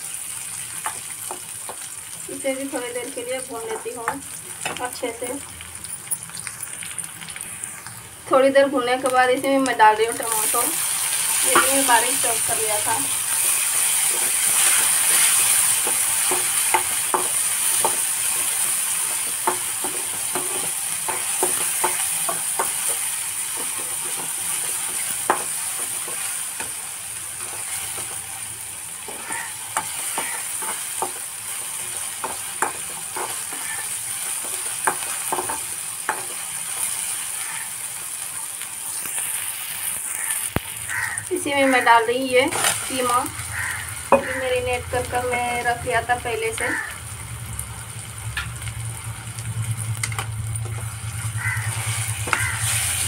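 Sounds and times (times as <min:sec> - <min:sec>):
vegetables sizzling in oil: 0:00.0 - 0:53.0.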